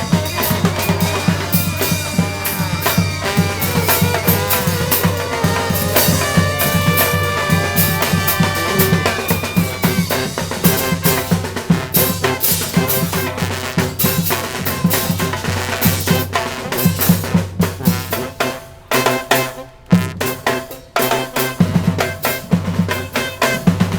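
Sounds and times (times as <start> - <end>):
horns holding long notes: 0.0 - 23.5
bass and snare drums beating: 0.0 - 23.9.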